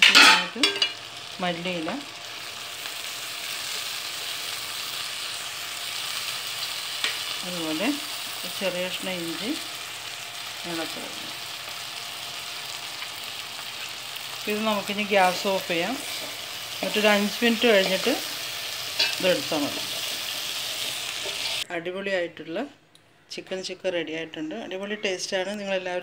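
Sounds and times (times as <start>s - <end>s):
chicken sizzling in a pot: 0.0s - 21.7s.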